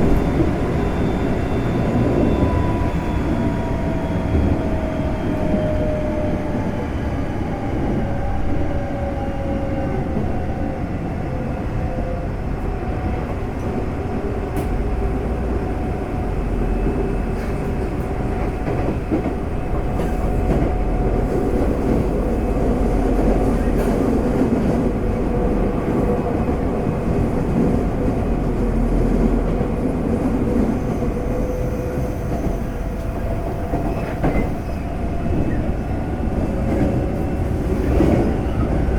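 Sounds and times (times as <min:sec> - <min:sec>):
train wheel and rail noise: 0:00.0 - 0:38.9.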